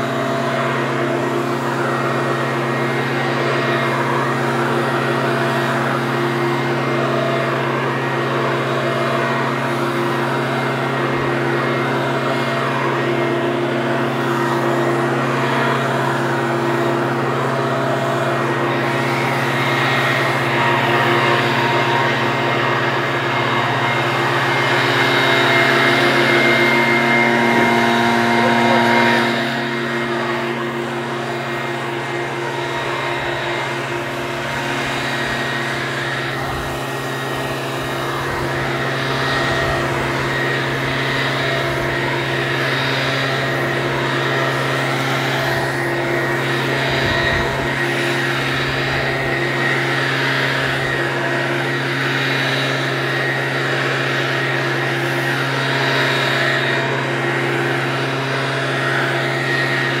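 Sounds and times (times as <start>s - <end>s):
leaf blower running: 0.0s - 60.0s.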